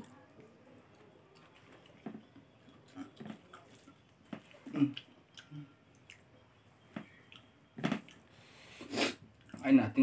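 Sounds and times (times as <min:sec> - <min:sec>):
chewing: 0:00.0 - 0:06.4, 0:07.0 - 0:08.4, 0:09.3 - 0:09.7.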